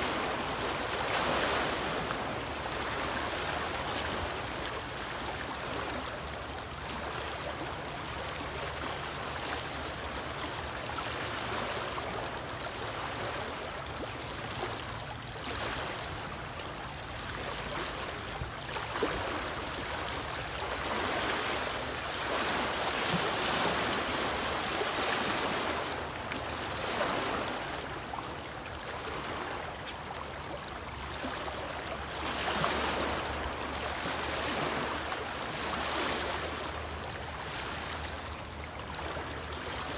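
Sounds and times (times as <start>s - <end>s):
waves lapping against rocks: 0.0s - 39.9s.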